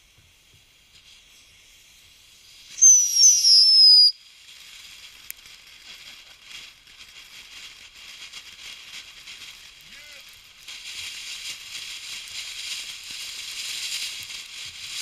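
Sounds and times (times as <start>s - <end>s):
faint steady hiss: 0.0s - 15.0s
whistling firework: 0.0s - 15.0s.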